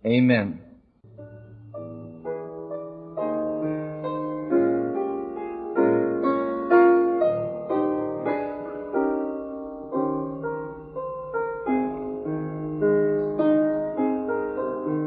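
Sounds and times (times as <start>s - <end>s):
piano playing slow chords: 1.0s - 15.0s.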